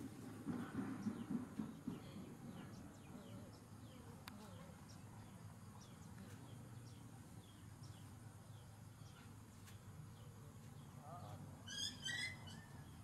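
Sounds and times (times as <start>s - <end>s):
bird chirping: 0.5s - 13.0s.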